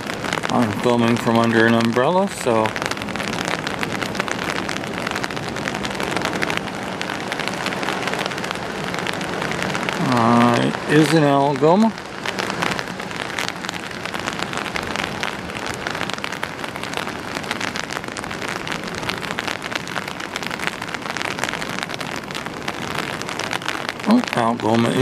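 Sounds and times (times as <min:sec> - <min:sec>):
rain pattering on an umbrella: 0:00.0 - 0:25.0.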